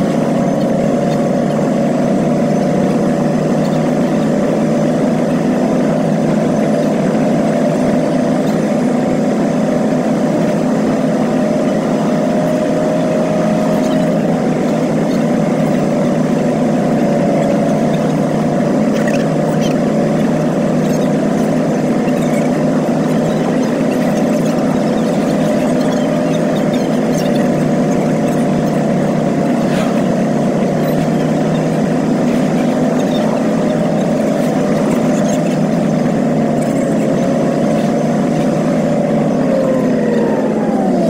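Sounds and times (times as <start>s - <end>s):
vehicle engine droning: 0.0s - 41.0s.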